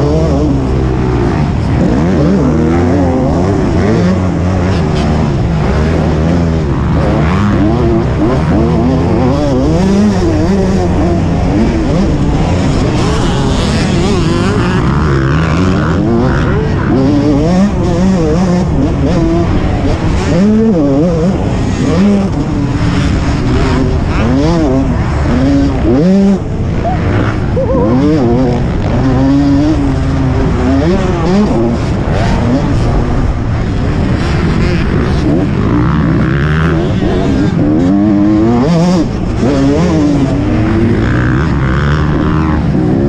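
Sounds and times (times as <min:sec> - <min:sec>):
motocross engine revving: 0:00.0 - 0:43.0.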